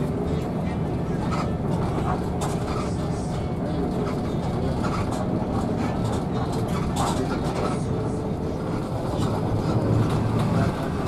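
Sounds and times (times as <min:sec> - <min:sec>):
bus engine and road noise: 0:00.0 - 0:11.0
rattles and clicks: 0:00.3 - 0:11.0.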